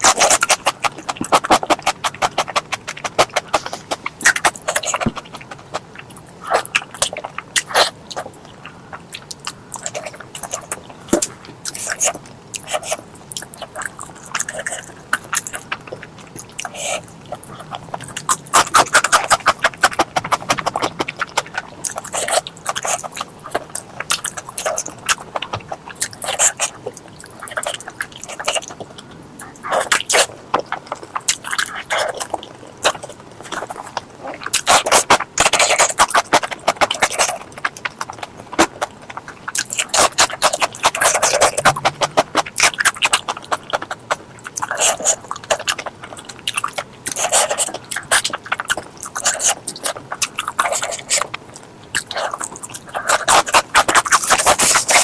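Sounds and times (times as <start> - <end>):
wet chewing and lip smacking: 0.0 - 55.0.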